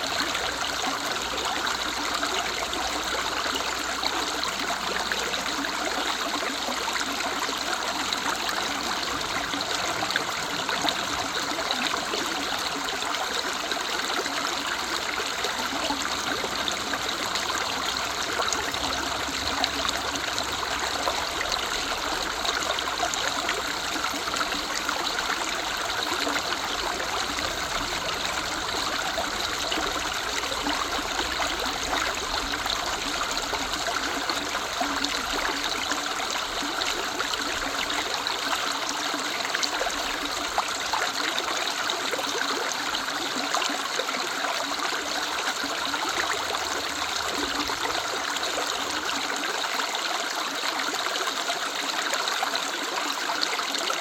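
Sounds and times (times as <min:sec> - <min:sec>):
river babbling over stones: 0:00.0 - 0:54.0.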